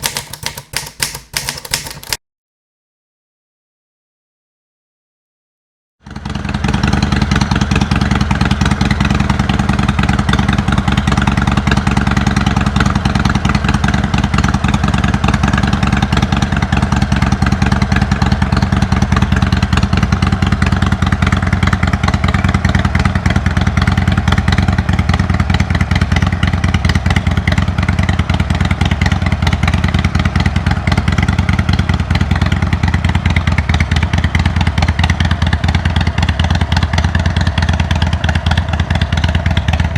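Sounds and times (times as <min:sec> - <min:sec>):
motorcycle engine idling: 0:06.0 - 0:39.9.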